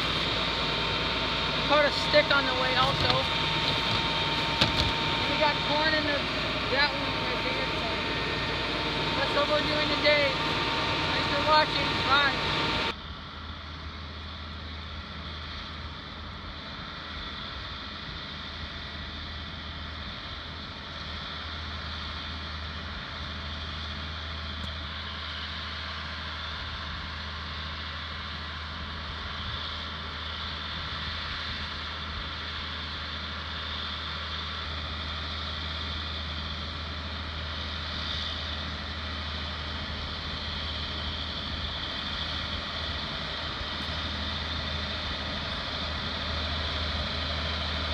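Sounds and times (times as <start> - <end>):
tractor engine running: 0.0 - 15.6, 21.4 - 47.9.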